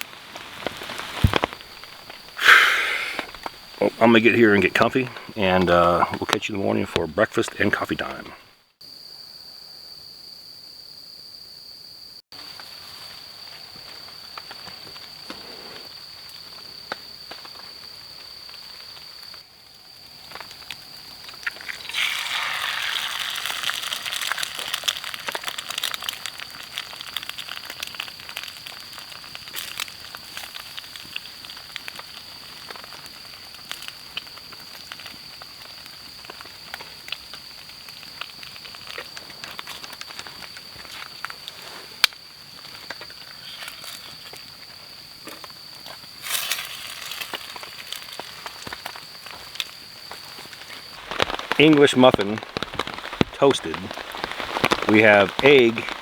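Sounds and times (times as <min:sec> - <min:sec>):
crackling sizzling noise: 0:00.0 - 0:09.2, 0:12.4 - 0:56.0
insects trilling: 0:00.0 - 0:56.0.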